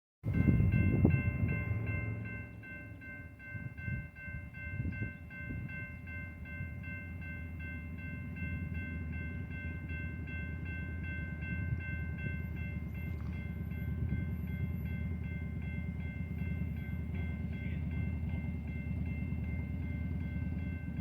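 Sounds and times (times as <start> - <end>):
railroad crossing bell ringing: 0.2 - 21.0.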